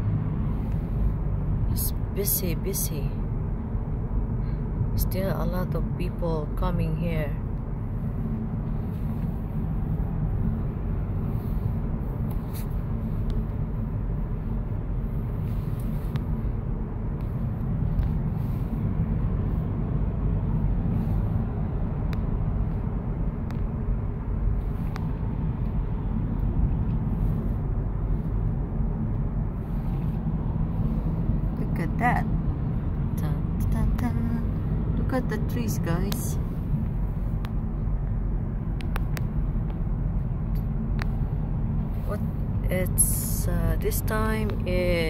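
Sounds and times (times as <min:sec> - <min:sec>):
car road noise rumble: 0:00.0 - 0:45.0.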